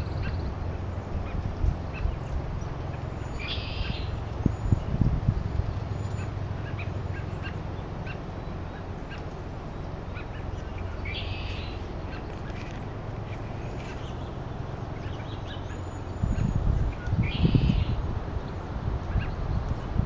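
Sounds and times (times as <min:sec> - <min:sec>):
bird chip calls: 0:00.0 - 0:05.0, 0:05.8 - 0:18.0
blackbirds singing buzzy trills: 0:00.0 - 0:20.0
steady low rumble: 0:00.0 - 0:20.0.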